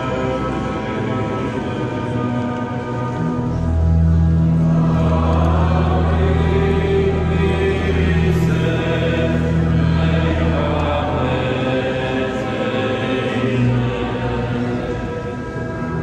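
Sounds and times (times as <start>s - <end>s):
church choir singing: 0.0s - 16.0s
organ chords: 0.0s - 16.0s.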